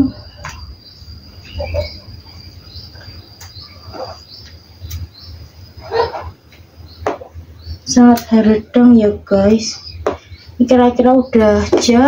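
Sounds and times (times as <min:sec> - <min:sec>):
insect trilling: 0:00.0 - 0:11.4.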